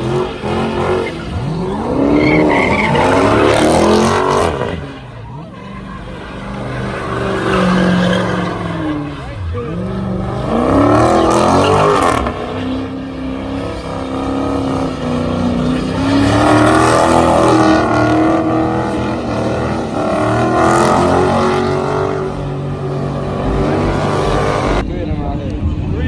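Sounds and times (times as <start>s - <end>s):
car engine at high revs: 0.0s - 25.8s.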